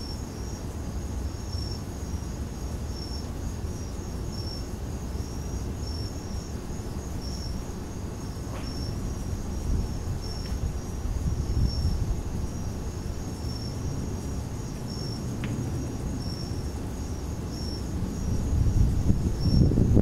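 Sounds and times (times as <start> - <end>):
crickets chirping: 0.0 - 20.0
high insect trill: 0.0 - 20.0
low wind rumble on microphone: 0.0 - 20.0.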